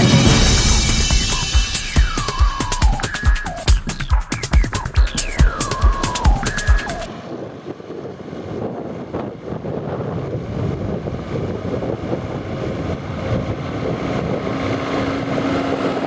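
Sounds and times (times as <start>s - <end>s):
diesel engine approaching: 0.0s - 16.0s.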